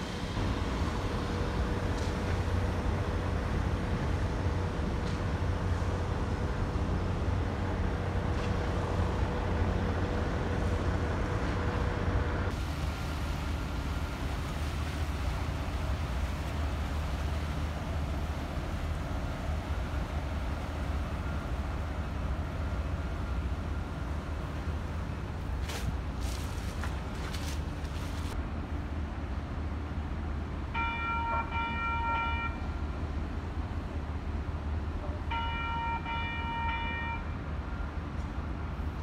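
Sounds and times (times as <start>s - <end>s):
boat engine rumble: 0.0s - 39.0s.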